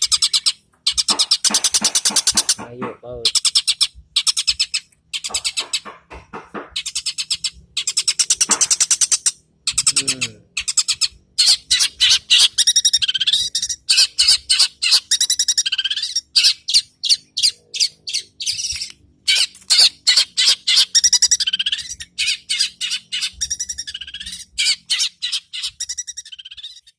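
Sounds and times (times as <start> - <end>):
bird chirping: 0.0 - 26.9.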